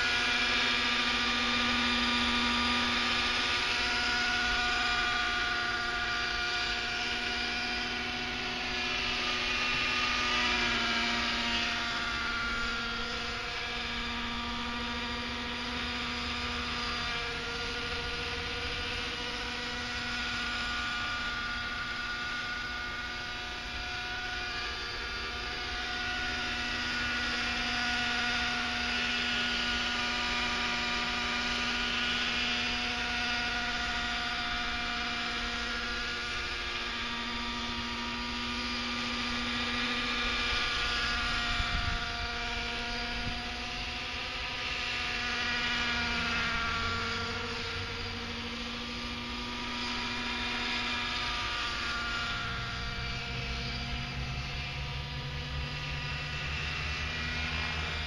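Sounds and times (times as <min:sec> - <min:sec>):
model helicopter engine buzzing: 0:00.0 - 0:58.0.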